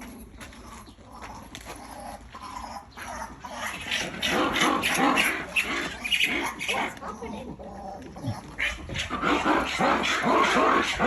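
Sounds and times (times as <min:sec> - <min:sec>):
animals making chattering barks: 0:00.6 - 0:11.0.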